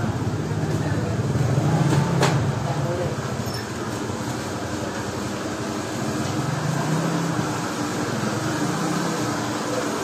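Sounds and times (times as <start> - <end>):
busy market ambience hiss: 0.0 - 10.0.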